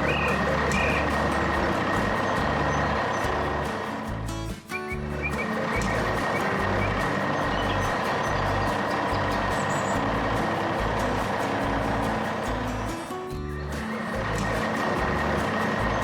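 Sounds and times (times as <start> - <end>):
background music with bass: 0.0 - 16.0
truck engine running: 0.0 - 16.0.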